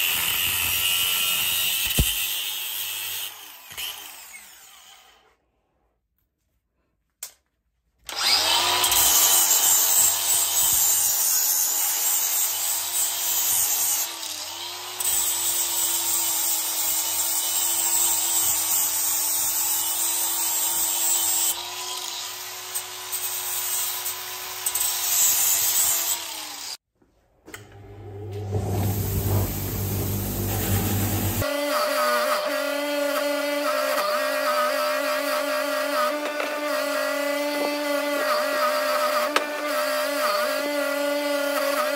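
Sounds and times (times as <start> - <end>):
angle grinder grinding metal: 0.0 - 5.3, 8.1 - 26.8, 27.7 - 41.9.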